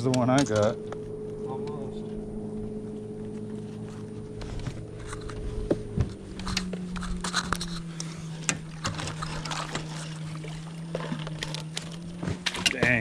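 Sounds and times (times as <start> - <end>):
small motor humming: 0.4 - 12.8.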